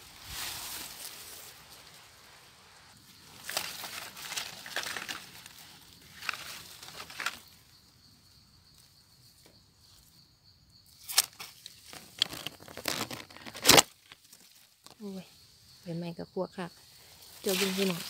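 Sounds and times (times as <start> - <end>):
leaves and undergrowth rustling: 0.0 - 7.9, 10.9 - 18.0.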